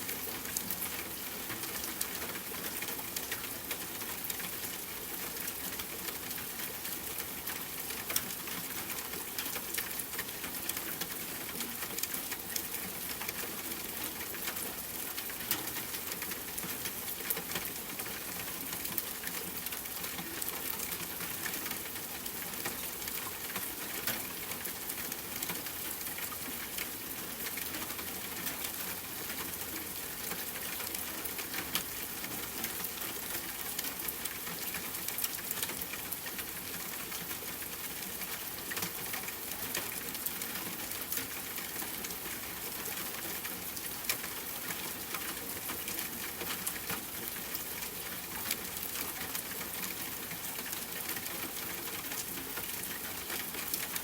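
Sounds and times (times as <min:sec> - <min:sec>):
rain pattering on a tent: 0:00.0 - 0:54.0.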